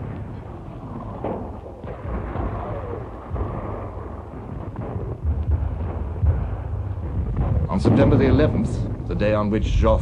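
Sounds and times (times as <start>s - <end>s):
heavy artillery booms: 0.0s - 10.0s
low artillery rumbling: 0.0s - 10.0s.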